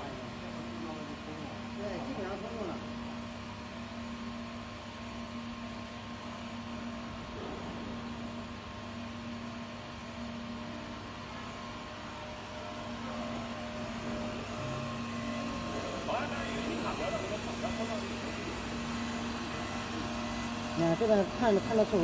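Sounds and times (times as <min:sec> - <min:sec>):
welding machine hum and hiss: 0:00.0 - 0:22.0.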